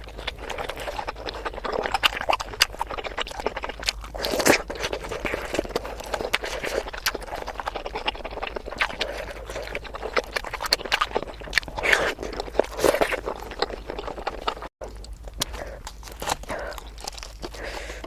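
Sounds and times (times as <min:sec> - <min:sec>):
wet chewing and mouth smacking: 0:00.0 - 0:18.0.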